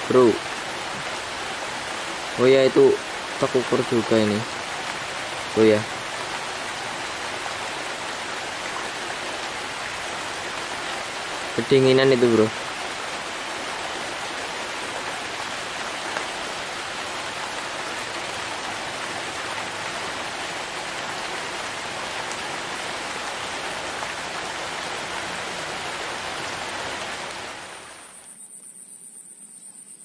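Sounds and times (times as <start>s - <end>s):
heavy rain falling: 0.0s - 28.2s.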